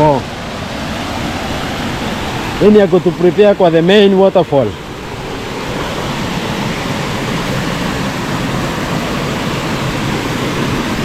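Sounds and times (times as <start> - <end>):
water rushing over waterfall: 0.0 - 11.0.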